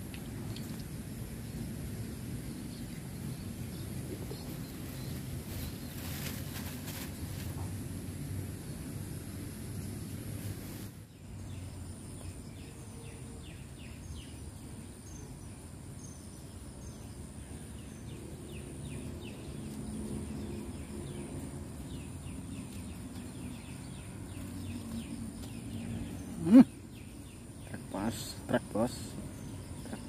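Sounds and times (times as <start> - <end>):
small birds chirping: 0.0 - 7.8, 8.5 - 30.0
high insect drone: 1.0 - 30.0.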